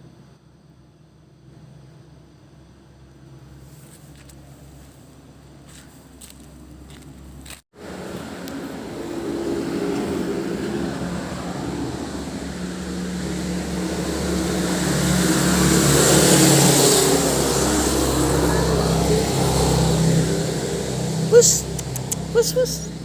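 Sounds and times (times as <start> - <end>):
vehicle engine running: 1.6 - 23.0.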